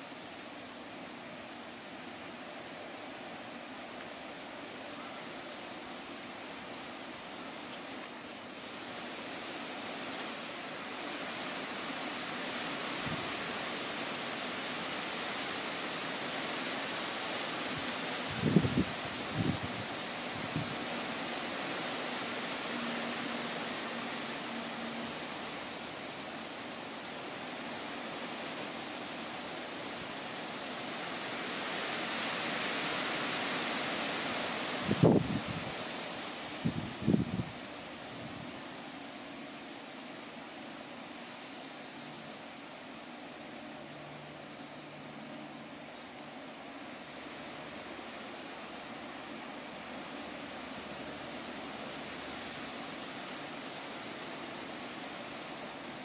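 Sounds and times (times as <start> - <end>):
rushing outdoor background noise: 0.0 - 56.0.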